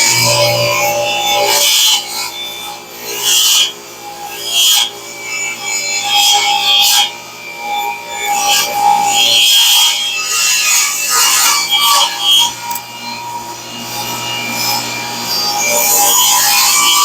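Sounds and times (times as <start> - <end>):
table saw cutting wood: 0.0 - 7.5, 8.1 - 17.0.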